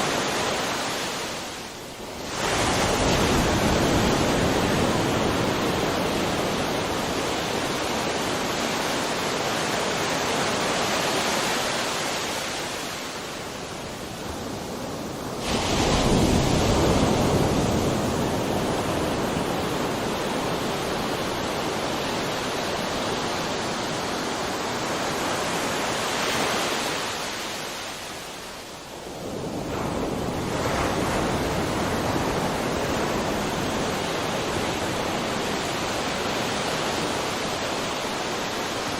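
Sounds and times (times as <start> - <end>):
sea waves washing on shore: 0.0 - 38.9.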